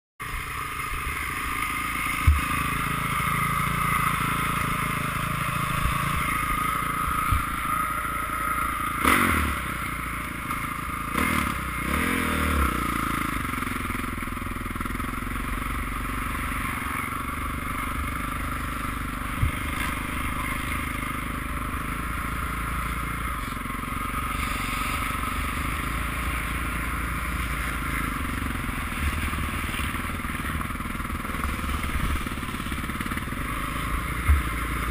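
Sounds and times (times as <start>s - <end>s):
dirt bike engine running: 0.2s - 34.9s.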